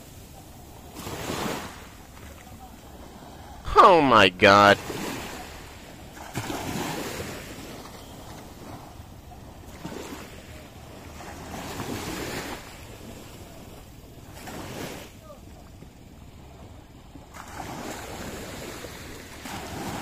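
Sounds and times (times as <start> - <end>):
small waves lapping: 0.0 - 20.0.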